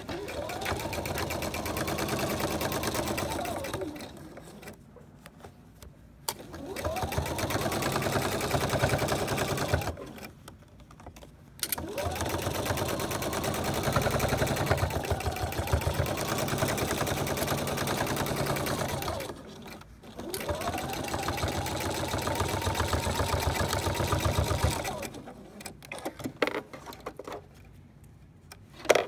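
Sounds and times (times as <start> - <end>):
sewing machine stitching: 0.0 - 4.8, 6.3 - 10.3, 11.6 - 26.3.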